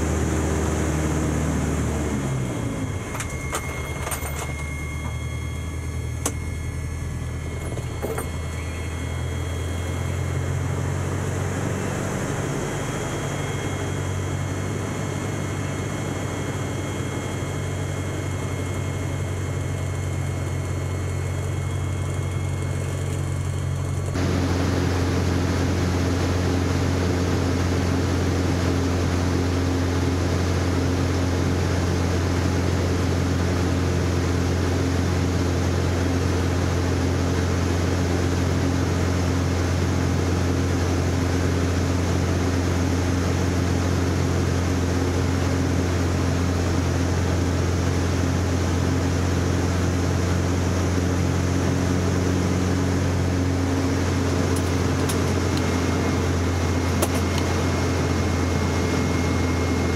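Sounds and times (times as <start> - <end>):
plane engine and propeller: 0.0 - 59.9.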